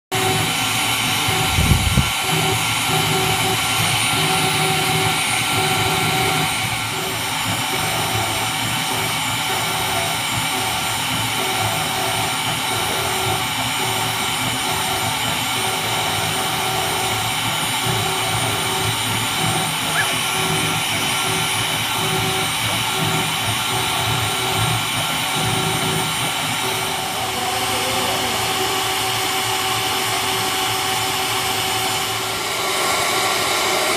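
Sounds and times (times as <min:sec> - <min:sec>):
engraver spindle whine: 0:00.2 - 0:33.9.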